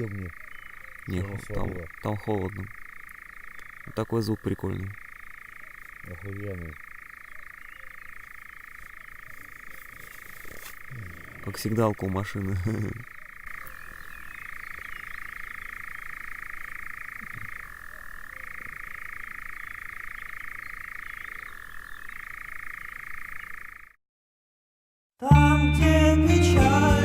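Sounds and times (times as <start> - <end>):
night bird trilling: 0.0 - 24.0.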